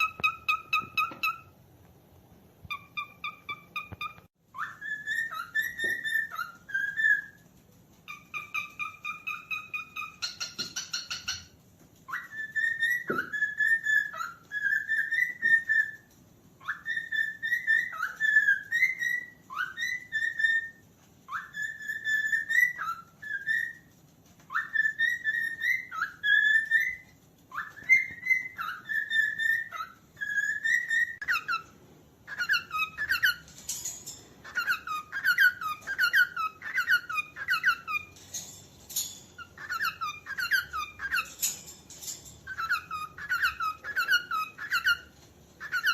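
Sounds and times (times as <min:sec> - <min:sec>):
cockatiel whistling: 0:00.0 - 0:01.5, 0:02.6 - 0:33.5, 0:34.4 - 0:38.3, 0:39.0 - 0:41.6, 0:42.5 - 0:45.9.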